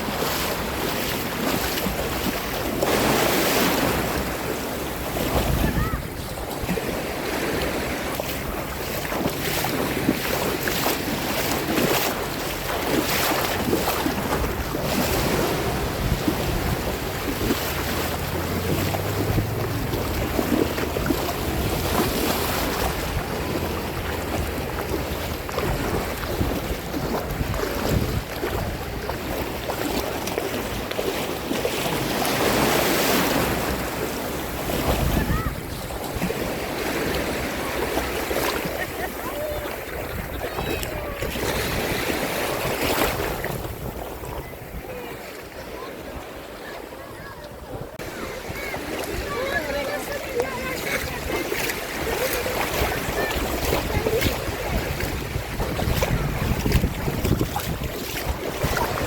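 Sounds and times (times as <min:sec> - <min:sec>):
sea waves breaking: 0:00.0 - 0:59.0
wind buffeting microphone: 0:00.0 - 0:59.0.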